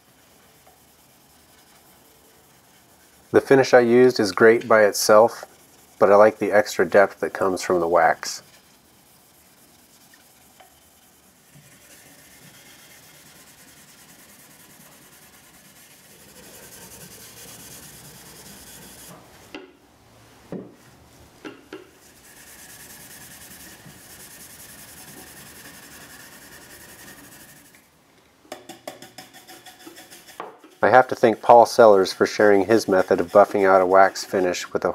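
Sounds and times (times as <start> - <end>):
brush buffing strokes: 0.0 - 19.5, 21.9 - 27.9, 29.1 - 34.9
steel wool rubbing wood: 0.0 - 19.6, 21.8 - 27.9, 29.1 - 34.9.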